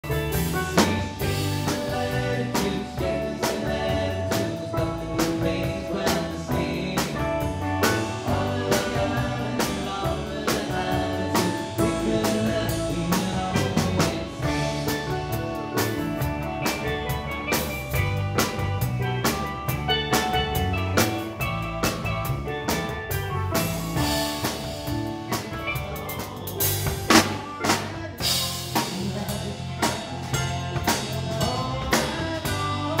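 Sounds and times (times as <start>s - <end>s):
drum kit beat: 0.0s - 33.0s
electric guitar: 0.0s - 33.0s.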